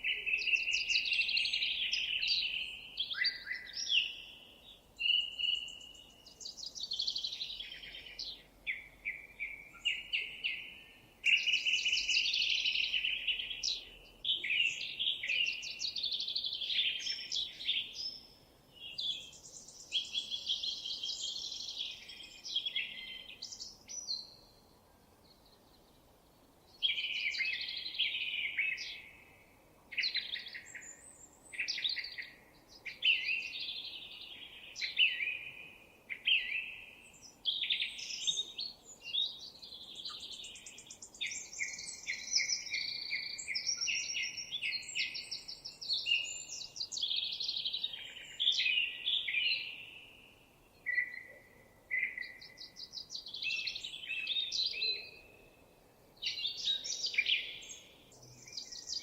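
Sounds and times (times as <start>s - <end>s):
songbird chirps and trills: 0.0s - 59.0s.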